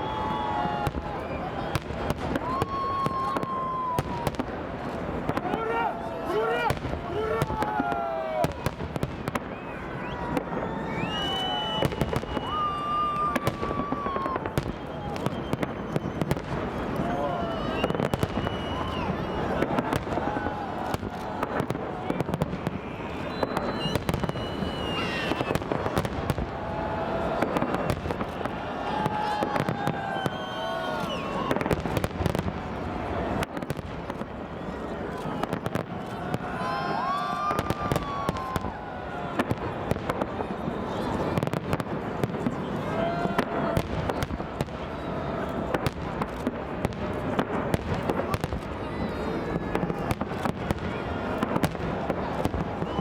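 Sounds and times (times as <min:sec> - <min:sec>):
crowd voices: 0:00.0 - 0:53.0
fireworks bangs and crackles: 0:00.0 - 0:53.0.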